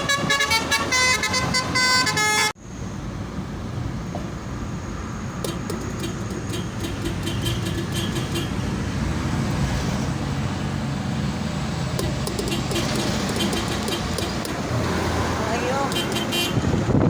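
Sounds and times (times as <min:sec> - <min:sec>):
road traffic: 0:00.0 - 0:17.0
truck engine rumbling: 0:00.0 - 0:17.0.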